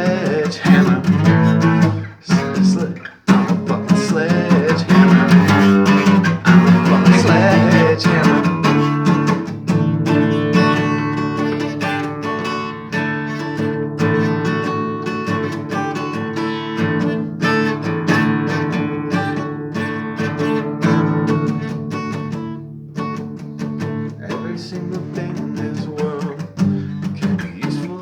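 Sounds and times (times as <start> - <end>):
strummed guitar: 0.0 - 28.0.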